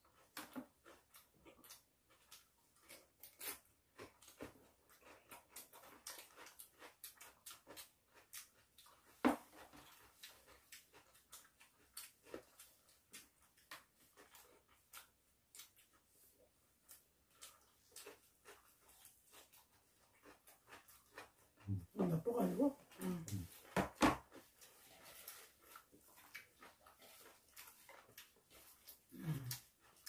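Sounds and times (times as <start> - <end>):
chewing and mouth smacks: 0.0 - 22.0, 22.8 - 30.0.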